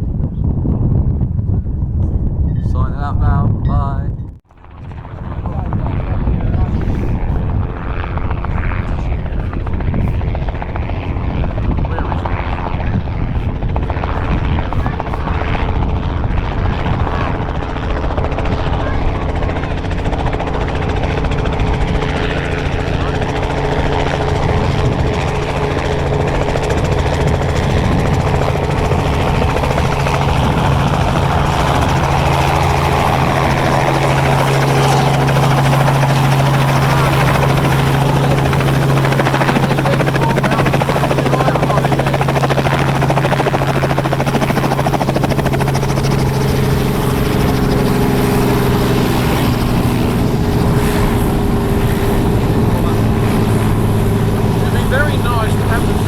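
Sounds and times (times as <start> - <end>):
helicopter engine and rotors: 0.0 - 56.0.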